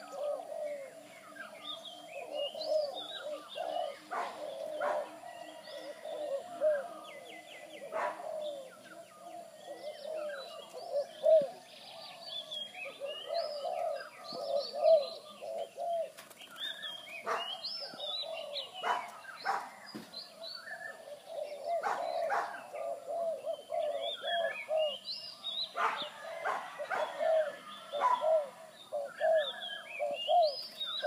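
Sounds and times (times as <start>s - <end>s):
birds chirping and whistling: 0.0s - 31.0s
birds cooing: 0.0s - 31.0s.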